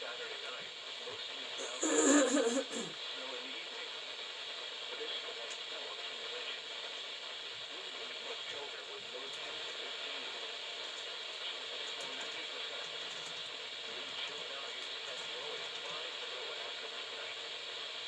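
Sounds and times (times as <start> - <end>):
radio static hiss and crackle: 0.0 - 18.0.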